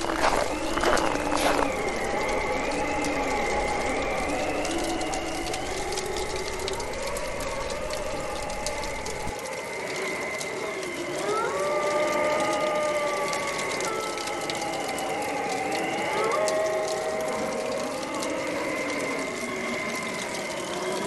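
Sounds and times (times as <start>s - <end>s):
bonfire crackling and popping: 0.0s - 21.0s
howling wind: 0.0s - 21.0s.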